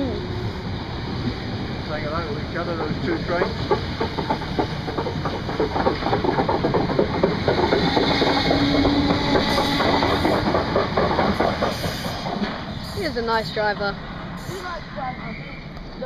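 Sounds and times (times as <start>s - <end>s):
train wheels clattering on track: 0.4s - 16.0s.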